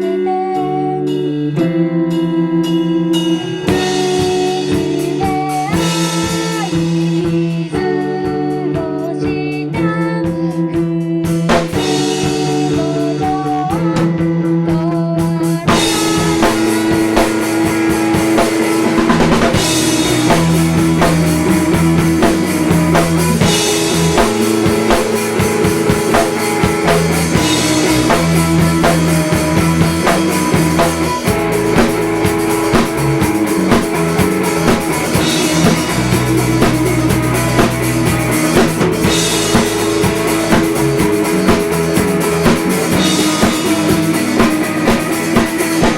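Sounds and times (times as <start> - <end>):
guitar notes: 0.0 - 45.9
indie pop band playing: 0.0 - 45.9
drum kit beat: 0.2 - 45.9.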